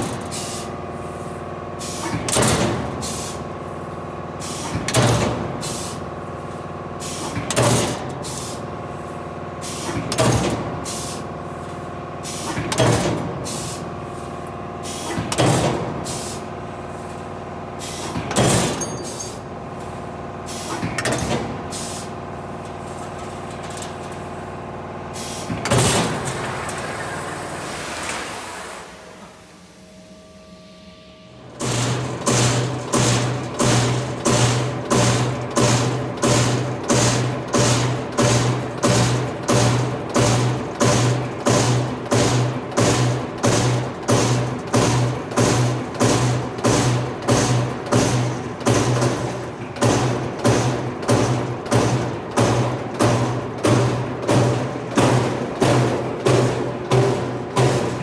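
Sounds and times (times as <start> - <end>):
punch press machine hum: 0.0 - 58.0.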